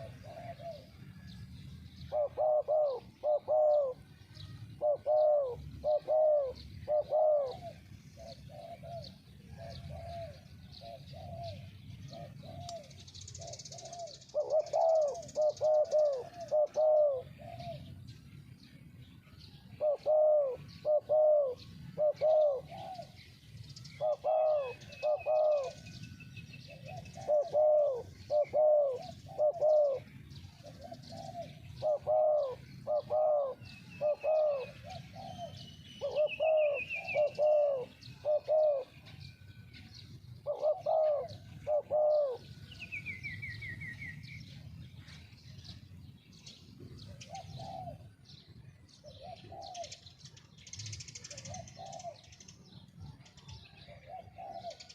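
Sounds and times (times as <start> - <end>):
doves cooing: 0.0 - 18.7, 19.4 - 54.9
small birds chirping: 0.0 - 54.9.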